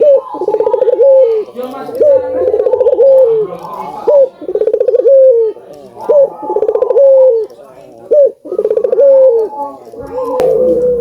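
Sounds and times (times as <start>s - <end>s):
dove cooing: 0.0s - 7.5s, 8.1s - 11.0s.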